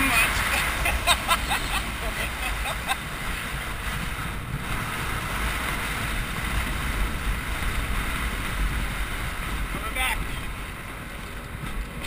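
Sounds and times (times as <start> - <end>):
water rushing and splashing: 0.0 - 12.0
wind buffeting microphone: 0.0 - 12.0.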